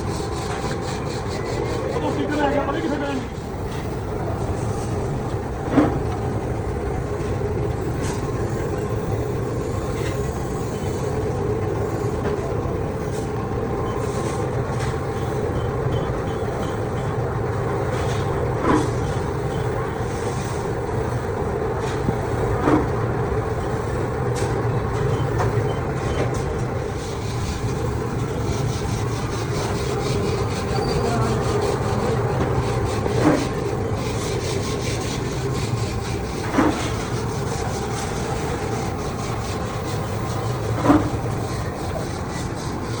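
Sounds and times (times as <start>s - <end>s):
heavy machinery hum: 0.0s - 43.0s.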